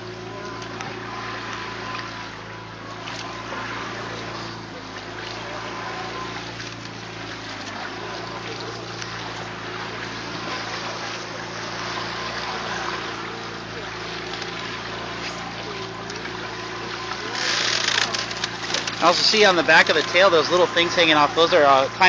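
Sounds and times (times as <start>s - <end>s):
boat engine hum: 0.0s - 22.0s
water rushing and splashing: 0.0s - 22.0s.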